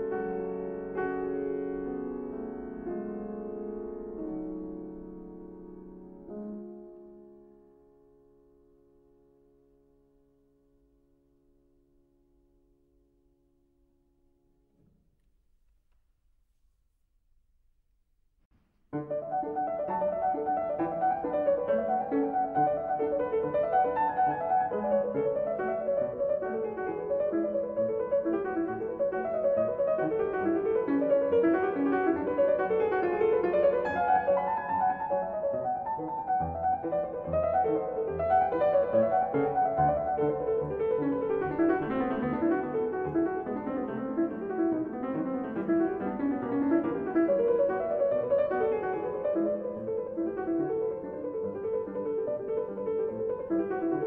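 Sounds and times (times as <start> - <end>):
solo piano music: 0.0 - 15.6, 18.6 - 54.0.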